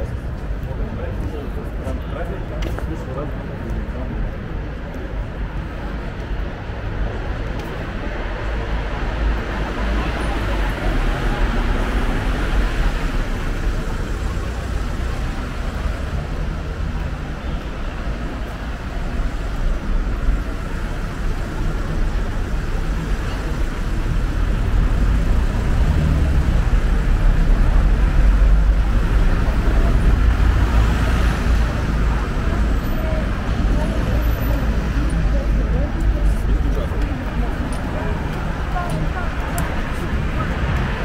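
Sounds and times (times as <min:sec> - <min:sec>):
passing cars rumbling: 0:00.0 - 0:41.0.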